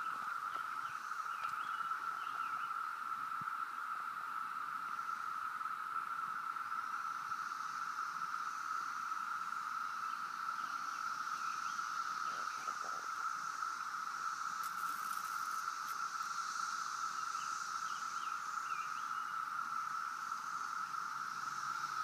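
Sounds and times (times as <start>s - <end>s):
cicadas droning: 0.0s - 22.0s
high hiss: 0.0s - 22.0s.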